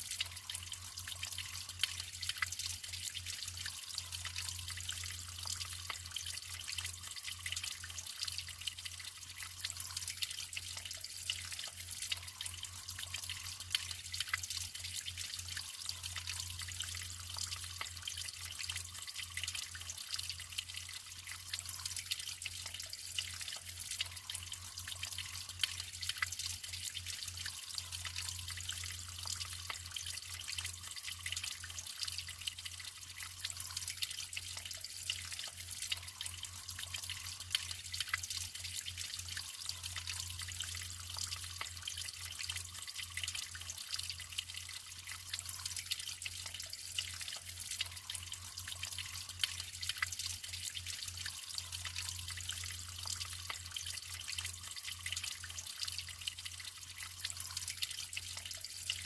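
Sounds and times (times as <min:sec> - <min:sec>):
water flowing and trickling: 0:00.0 - 0:59.0.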